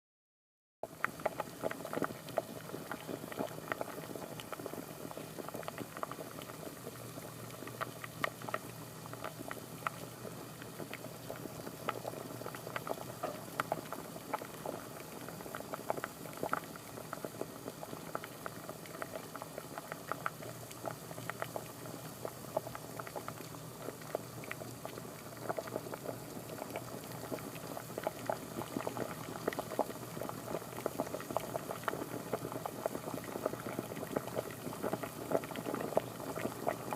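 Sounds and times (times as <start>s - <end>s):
water boiling and bubbling: 0.8s - 36.9s.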